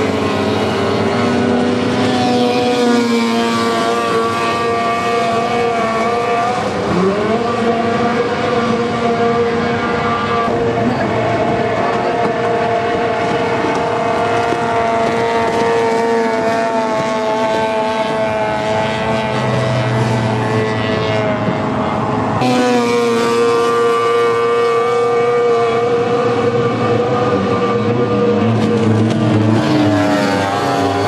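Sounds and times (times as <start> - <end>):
racing motorboat engines whining: 0.0 - 31.0.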